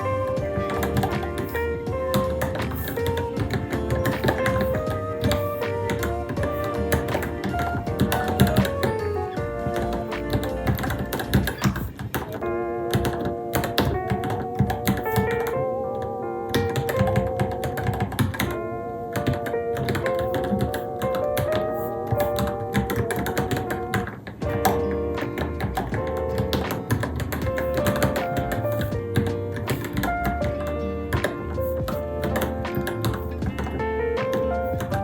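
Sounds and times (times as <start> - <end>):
background music with melody: 0.0 - 35.0
mechanical keyboard typing: 0.0 - 35.0.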